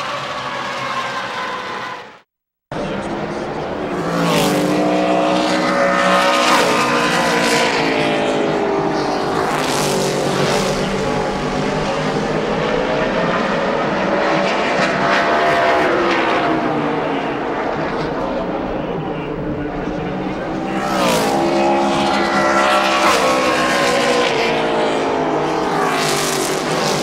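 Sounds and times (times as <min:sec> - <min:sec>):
race car engine on a lap: 0:00.0 - 0:27.0.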